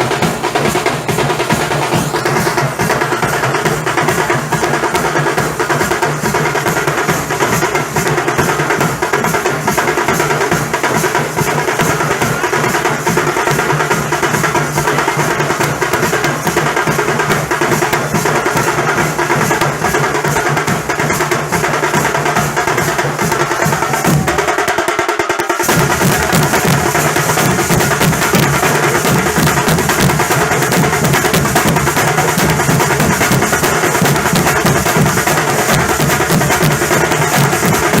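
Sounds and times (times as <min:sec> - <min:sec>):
fast snare drumming: 0:00.0 - 0:38.0.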